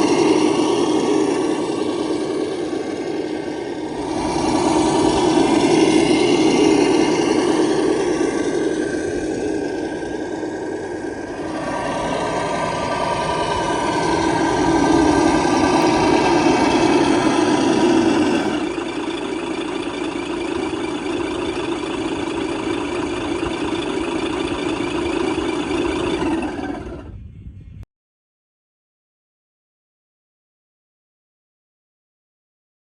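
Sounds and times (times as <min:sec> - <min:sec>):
toy truck electric motor running: 0:00.0 - 0:27.2.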